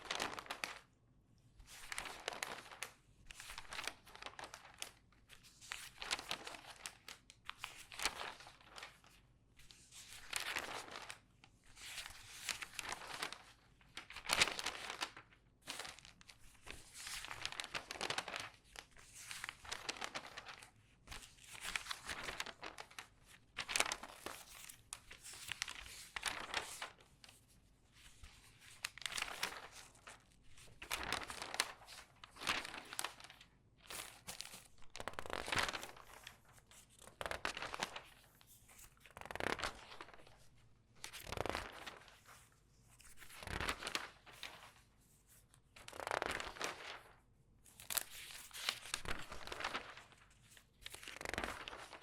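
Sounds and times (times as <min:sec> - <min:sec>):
newspaper pages turning: 0:00.0 - 0:00.9, 0:01.6 - 0:09.2, 0:09.8 - 0:52.0.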